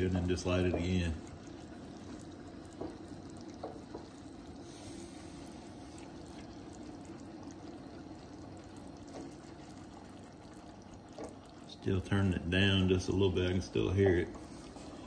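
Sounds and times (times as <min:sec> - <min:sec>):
syrup boiling and bubbling: 0:00.0 - 0:15.0.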